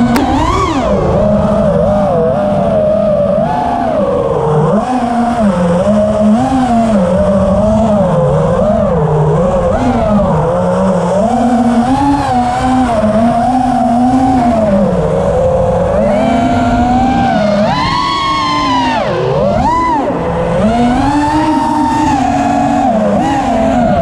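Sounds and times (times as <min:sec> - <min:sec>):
model aircraft motor whining: 0:00.0 - 0:24.0
wind noise over microphone: 0:00.0 - 0:24.0.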